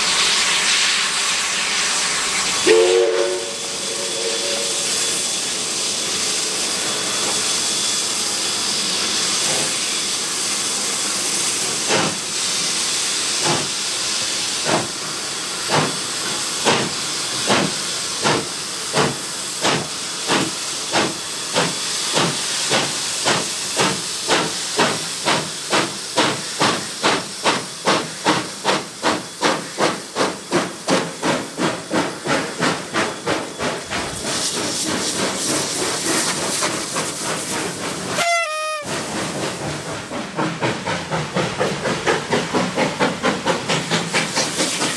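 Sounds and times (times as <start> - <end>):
steam hissing: 0.0 - 44.9.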